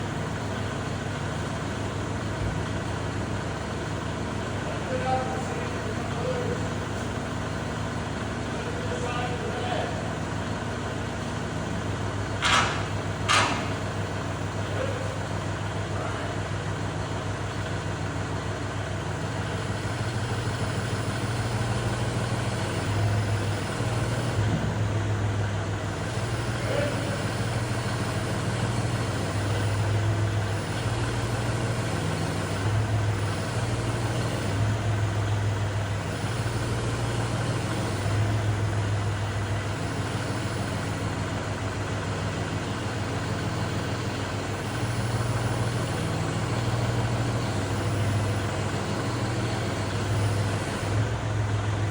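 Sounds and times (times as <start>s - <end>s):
diesel tractor engine idling: 0.0s - 51.9s.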